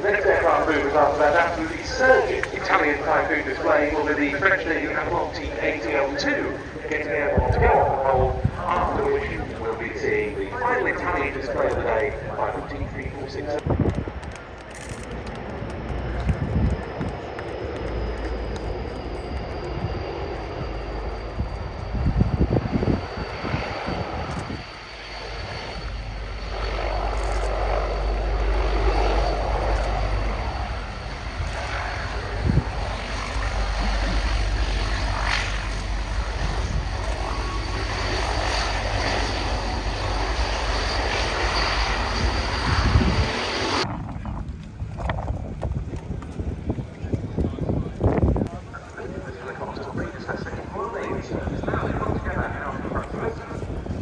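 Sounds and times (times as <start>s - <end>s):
aircraft engine roar: 0.0s - 54.0s
wind buffeting microphone: 0.0s - 54.0s.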